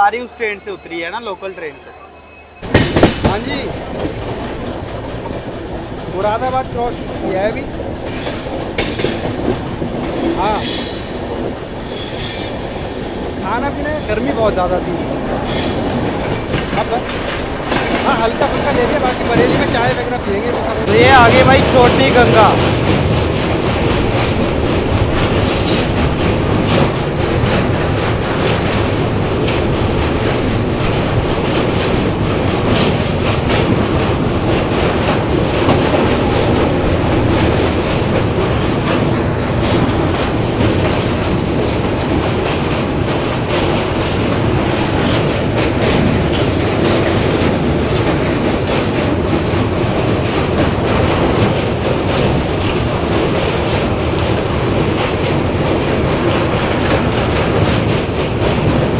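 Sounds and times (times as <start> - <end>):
train wheels clattering over rails: 2.6 - 58.9.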